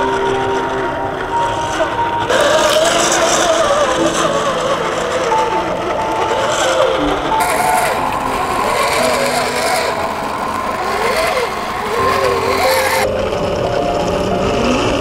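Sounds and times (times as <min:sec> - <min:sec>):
electric motor whining: 0:00.0 - 0:13.8.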